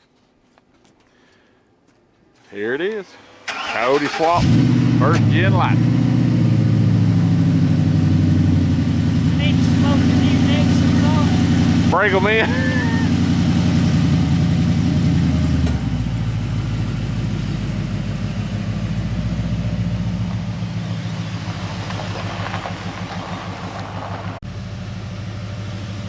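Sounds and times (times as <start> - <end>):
truck engine revving then idling: 3.2 - 26.0.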